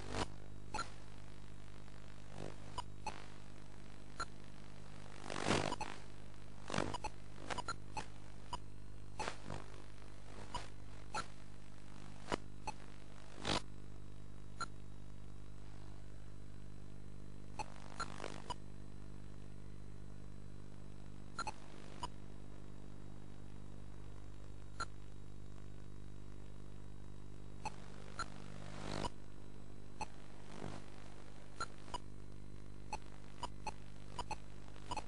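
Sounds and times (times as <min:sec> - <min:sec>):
low electrical buzz: 0:00.0 - 0:35.0
sharp static crackles: 0:00.0 - 0:35.0.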